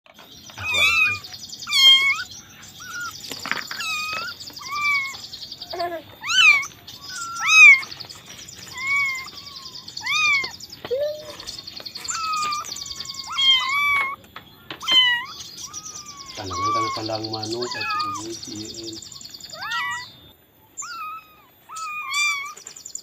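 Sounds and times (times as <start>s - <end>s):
high-pitched chirring: 0.2s - 23.0s
cat meowing: 0.6s - 7.9s, 8.7s - 11.3s, 12.1s - 14.2s, 14.8s - 18.8s, 19.5s - 20.1s, 20.8s - 22.6s.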